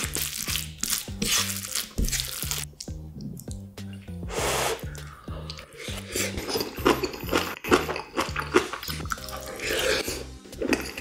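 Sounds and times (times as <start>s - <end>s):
person chewing and smacking: 0.0s - 4.1s, 4.9s - 11.0s
background music with bass line: 0.0s - 11.0s
wet mouth sounds: 0.1s - 11.0s.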